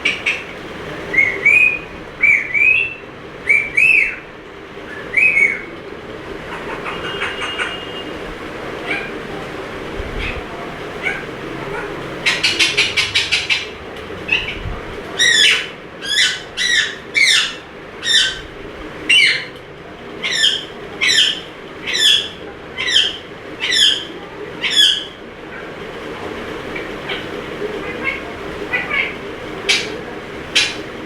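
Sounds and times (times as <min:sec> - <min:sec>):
parakeet chattering and screeching: 0:00.0 - 0:05.7, 0:06.3 - 0:09.4, 0:10.2 - 0:18.5, 0:19.1 - 0:19.6, 0:20.2 - 0:25.8, 0:26.6 - 0:31.0.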